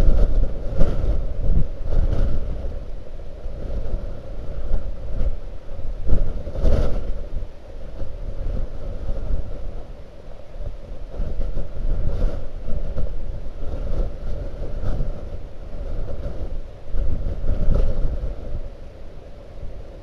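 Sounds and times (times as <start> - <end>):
blizzard wind buffeting microphone: 0.0 - 20.0.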